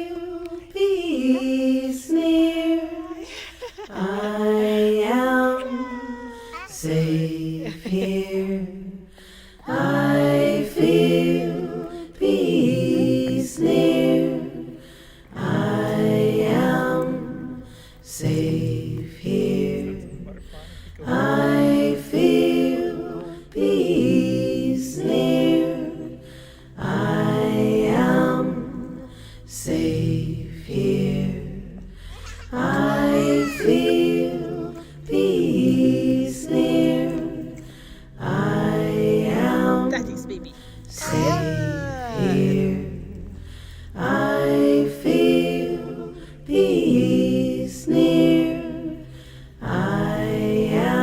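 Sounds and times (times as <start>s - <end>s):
a cappella singing: 0.0s - 51.0s.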